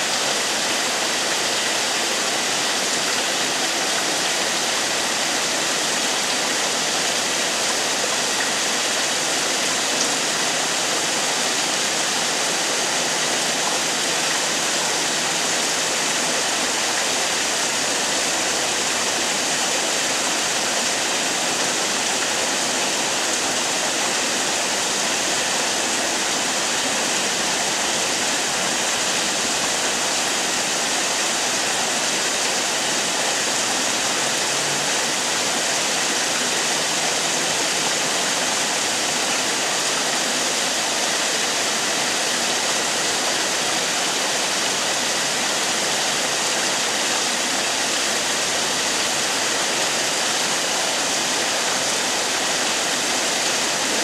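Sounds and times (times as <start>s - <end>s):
waterfall splashing into pool: 0.0s - 54.0s.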